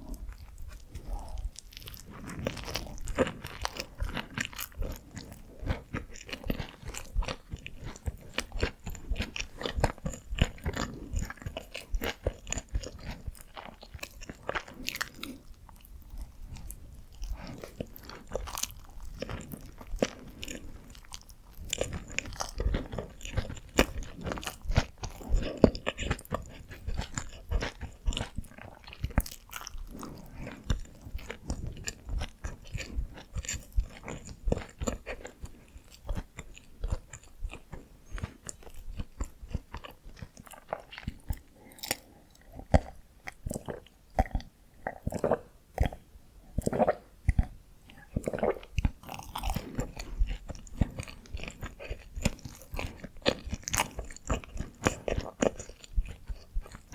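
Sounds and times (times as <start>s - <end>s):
chewing and biting buns: 0.0s - 56.9s.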